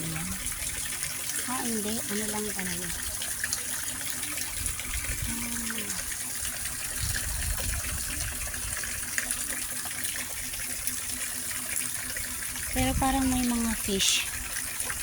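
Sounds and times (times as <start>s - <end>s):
water gushing: 0.0s - 15.0s.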